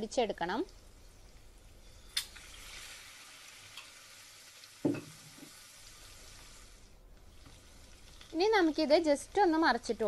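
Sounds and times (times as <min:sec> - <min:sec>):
deep-frying sizzle: 0:00.0 - 0:10.0
hot oil spitting: 0:00.6 - 0:10.0.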